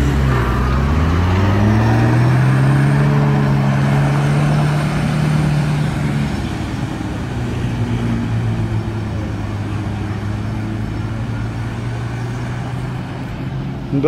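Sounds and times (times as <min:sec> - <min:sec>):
off-road engines revving hard: 0:00.0 - 0:14.0.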